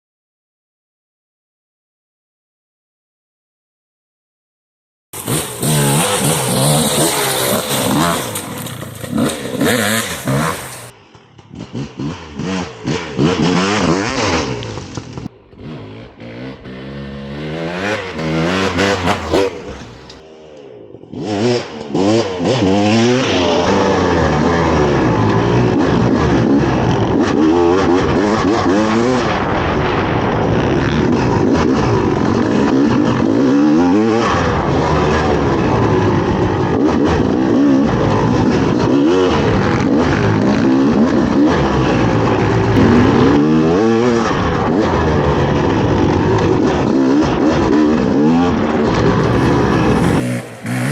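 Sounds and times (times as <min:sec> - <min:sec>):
dirt bike engine revving: 0:05.2 - 0:50.9.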